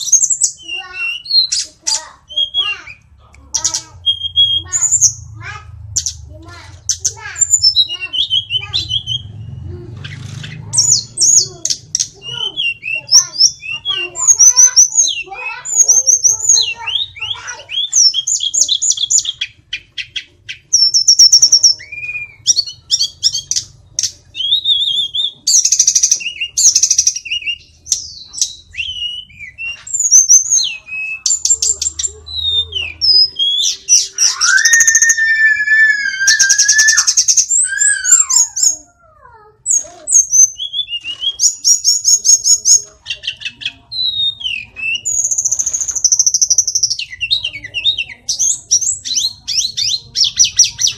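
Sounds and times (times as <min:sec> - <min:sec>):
bird singing trills and whistles: 0:00.0 - 0:05.4, 0:06.0 - 0:50.9.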